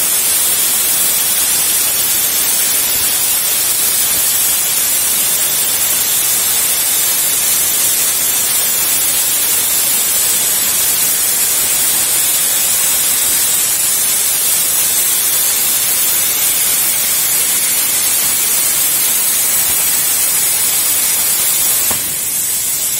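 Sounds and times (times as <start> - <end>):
plasma torch hissing: 0.0 - 22.9.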